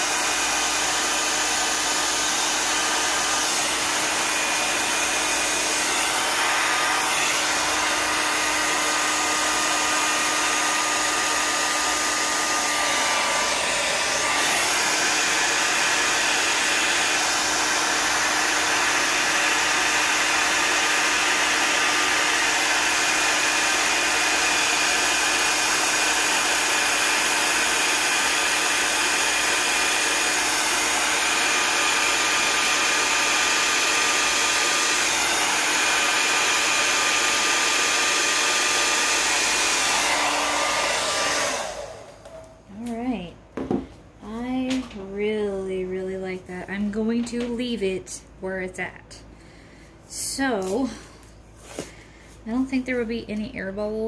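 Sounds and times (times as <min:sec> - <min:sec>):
hair dryer blowing: 0:00.0 - 0:48.8, 0:50.1 - 0:53.2.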